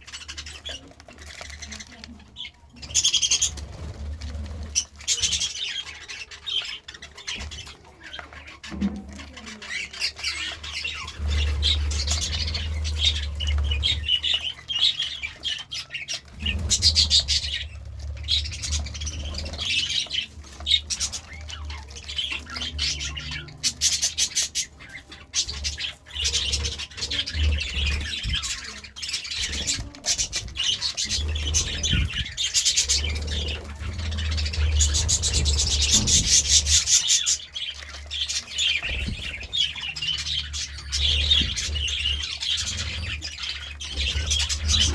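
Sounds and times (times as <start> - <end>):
budgerigars chirping and squawking: 0.0 - 44.9.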